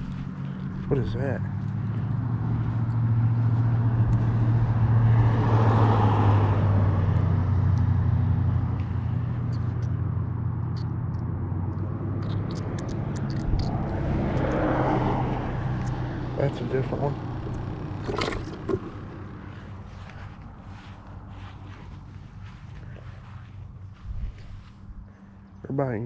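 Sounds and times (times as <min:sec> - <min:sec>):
vehicle engine hum: 0:00.0 - 0:26.0.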